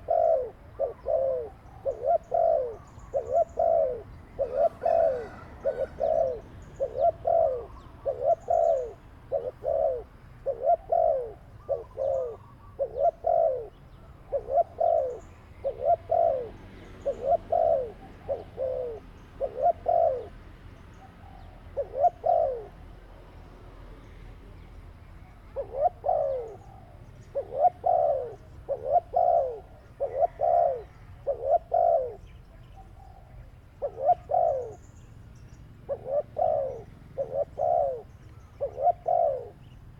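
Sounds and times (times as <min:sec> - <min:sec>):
dove cooing: 0:00.0 - 0:23.4, 0:25.3 - 0:39.9.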